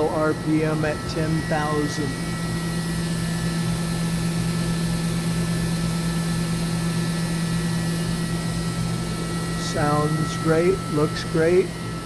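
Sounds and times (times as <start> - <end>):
machine spindle humming: 0.0 - 12.0.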